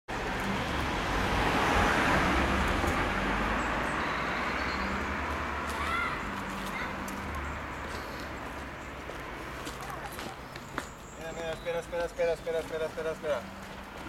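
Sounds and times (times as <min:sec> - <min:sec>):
car passing: 0:00.1 - 0:14.0.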